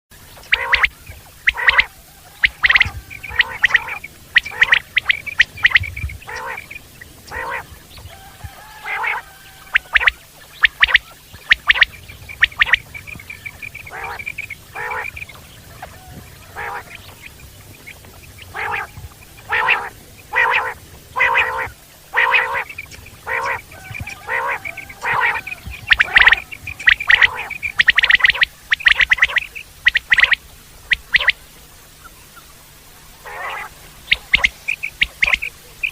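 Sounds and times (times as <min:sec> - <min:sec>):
quail calling: 0:00.4 - 0:32.5, 0:33.2 - 0:35.9.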